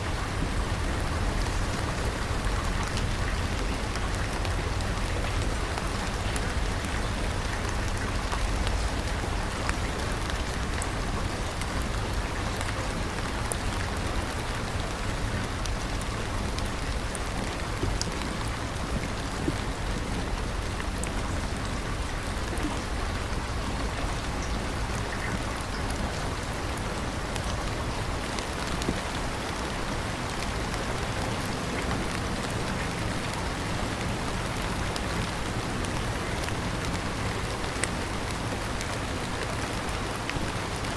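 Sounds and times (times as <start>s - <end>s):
steady rain hiss: 0.0s - 40.9s
rain drop ticks: 1.1s - 21.6s, 22.2s - 40.9s.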